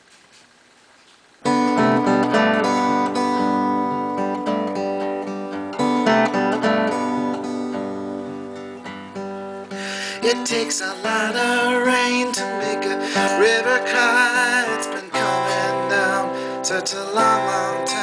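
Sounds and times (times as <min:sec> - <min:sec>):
acoustic guitar strumming chords: 0:01.4 - 0:18.0.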